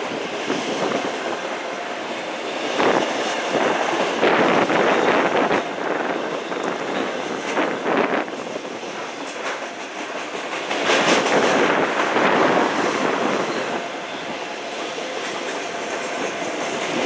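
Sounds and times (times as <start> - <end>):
train wheels clacking over rails: 0.0 - 17.0.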